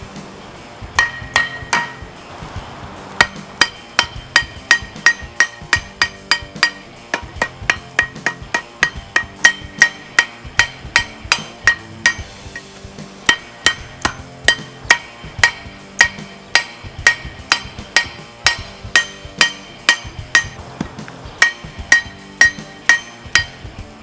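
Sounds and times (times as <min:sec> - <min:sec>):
hammer striking anvil: 0:01.0 - 0:02.2, 0:03.2 - 0:24.0.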